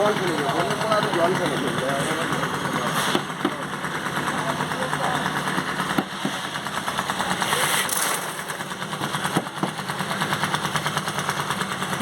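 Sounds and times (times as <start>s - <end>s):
small engine knocking: 0.0s - 12.0s.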